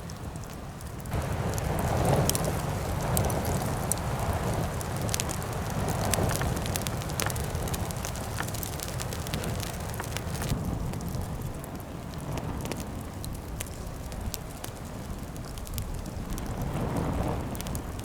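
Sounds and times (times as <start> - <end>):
fire crackling and popping: 0.0 - 18.0
rush of flame: 1.0 - 18.0.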